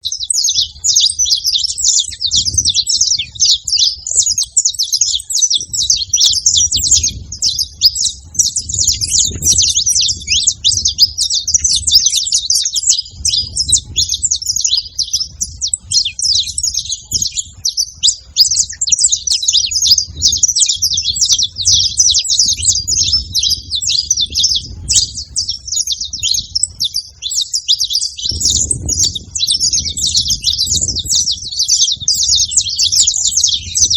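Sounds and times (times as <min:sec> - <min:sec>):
finches chirping: 0:00.0 - 0:33.9.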